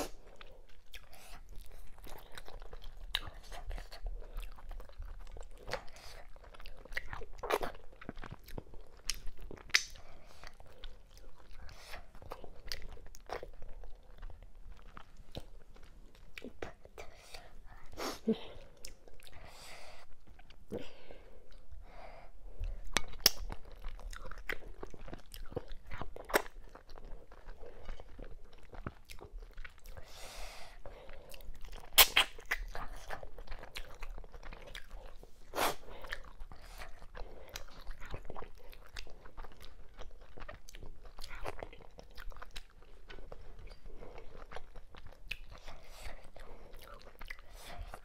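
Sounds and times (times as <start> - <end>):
chewing and wet mouth clicks: 0.1 - 17.8, 22.6 - 30.1, 31.2 - 48.0.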